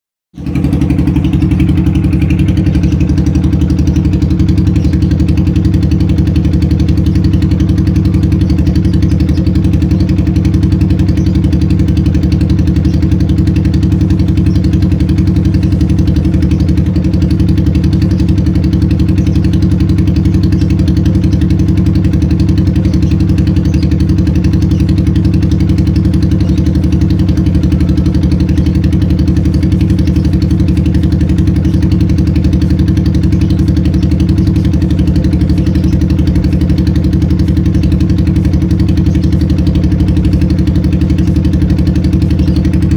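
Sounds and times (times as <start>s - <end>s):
motorcycle engine idling: 0.4s - 42.9s.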